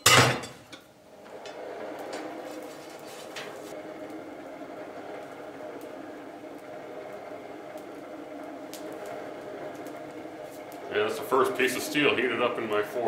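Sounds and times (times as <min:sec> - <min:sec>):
forge blower humming: 0:00.0 - 0:13.0.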